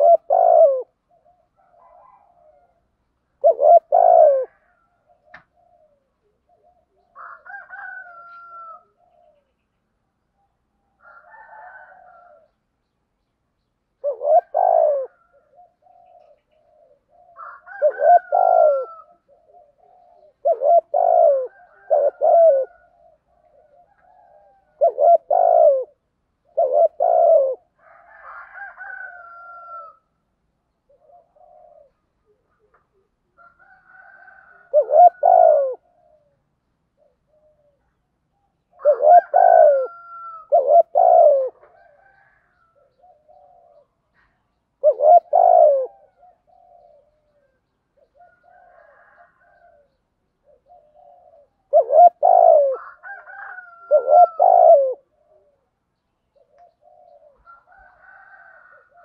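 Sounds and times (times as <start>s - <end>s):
dove cooing: 0.0s - 9.6s, 11.0s - 12.6s, 13.9s - 30.1s, 30.8s - 59.0s.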